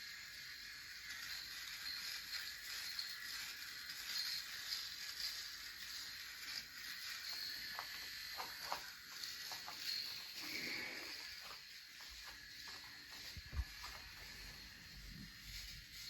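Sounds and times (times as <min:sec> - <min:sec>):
electric shaver buzzing: 0:00.0 - 0:16.0.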